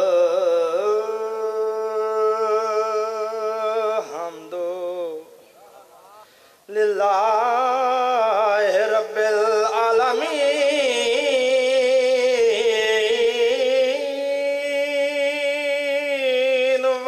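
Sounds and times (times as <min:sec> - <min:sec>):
man chanting through a microphone: 0:00.0 - 0:17.0.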